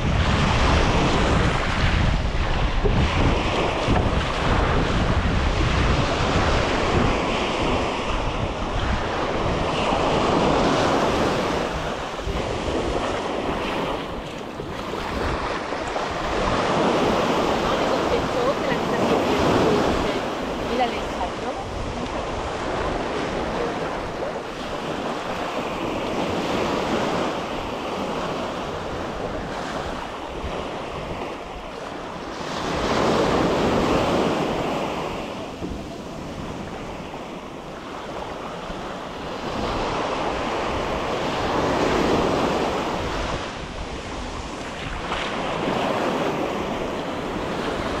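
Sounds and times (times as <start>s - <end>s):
surf breaking on shore: 0.0s - 48.0s
wind buffeting microphone: 0.0s - 48.0s.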